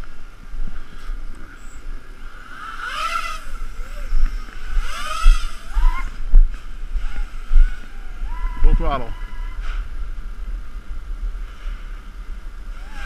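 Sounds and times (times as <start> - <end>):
drone motors and propellers whining: 0.0 - 10.2, 11.0 - 13.0.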